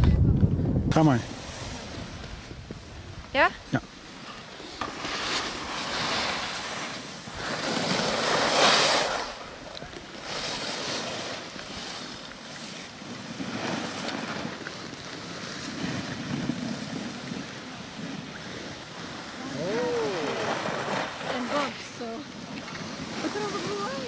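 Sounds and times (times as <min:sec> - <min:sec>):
skis scraping over packed snow: 0:01.0 - 0:24.0.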